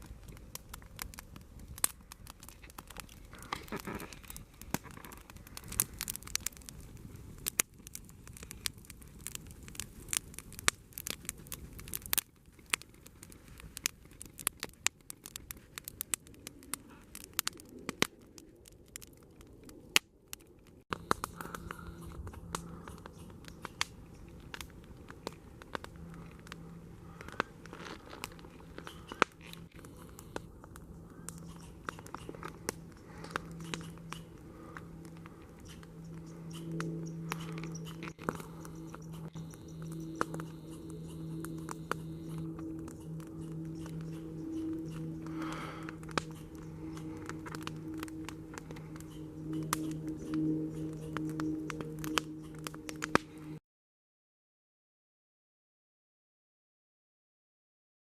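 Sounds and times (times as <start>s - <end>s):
campfire crackling: 0.0s - 53.6s.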